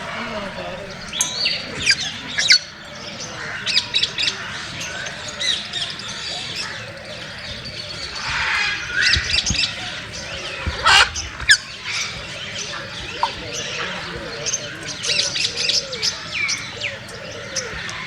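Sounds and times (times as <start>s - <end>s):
parrots squawking: 0.0s - 18.0s.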